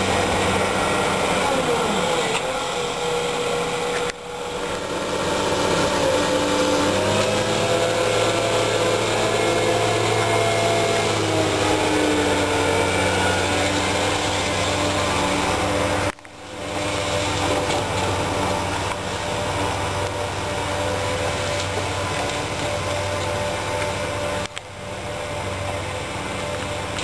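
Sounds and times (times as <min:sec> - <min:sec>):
diesel engine running: 0:00.0 - 0:27.0
hydraulic whining: 0:00.0 - 0:27.0.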